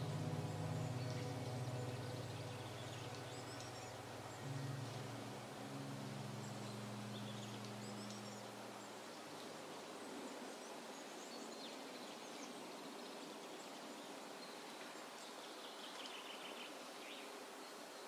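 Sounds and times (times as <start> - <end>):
soft steady hiss: 0.0 - 18.0.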